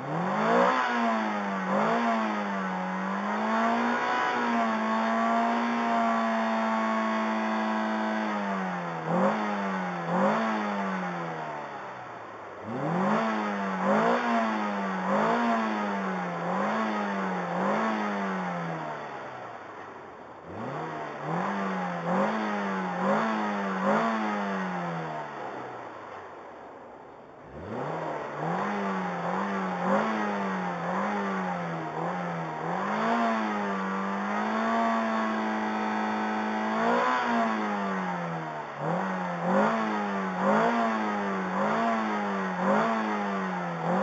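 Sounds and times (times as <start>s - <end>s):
car engine revving: 0.0s - 26.4s, 27.4s - 44.0s.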